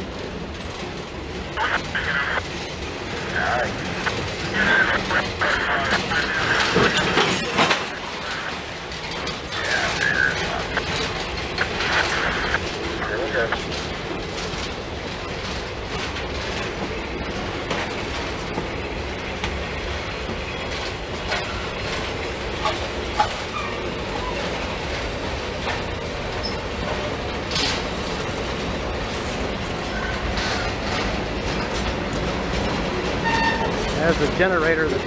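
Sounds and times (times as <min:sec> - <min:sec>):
train clicks and clanks: 0:00.0 - 0:35.0
train wheels rumbling on rail: 0:00.0 - 0:35.0.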